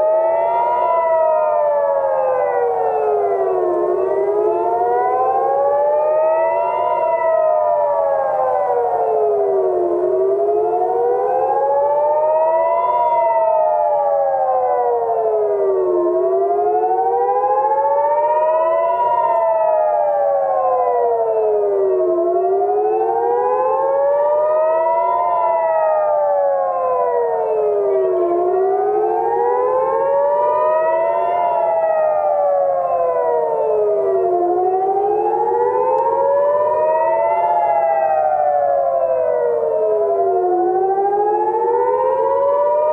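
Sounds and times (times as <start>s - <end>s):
air-raid siren wailing: 0.0s - 42.9s.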